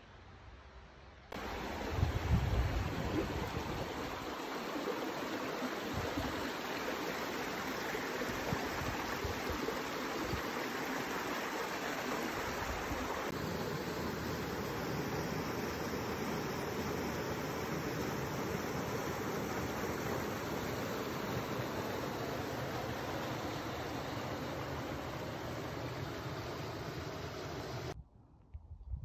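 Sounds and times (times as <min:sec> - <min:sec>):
water rushing over rocks: 0:01.4 - 0:27.9.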